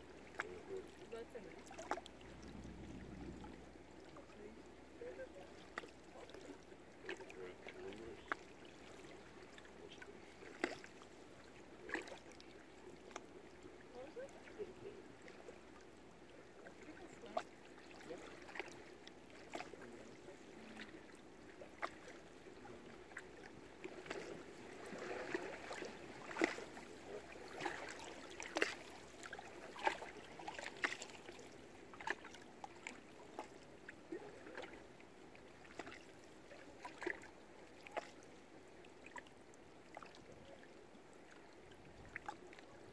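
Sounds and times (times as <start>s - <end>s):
water lapping against boats: 0.0s - 42.9s.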